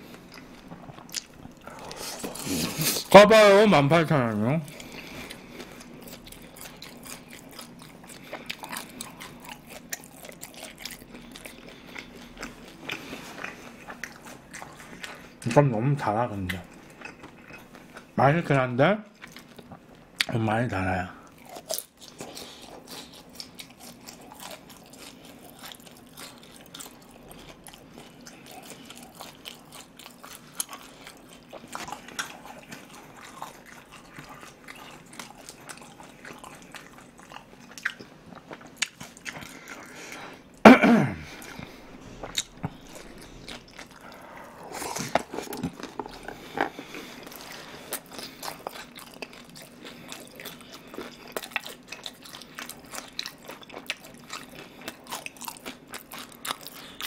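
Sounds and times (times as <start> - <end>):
close chewing and crunching: 0.0 - 40.6, 41.2 - 57.0.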